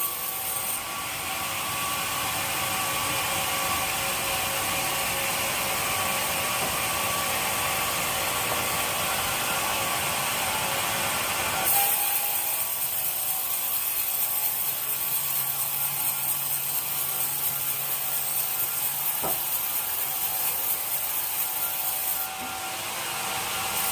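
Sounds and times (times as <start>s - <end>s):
saw cutting through wood: 0.0s - 23.9s.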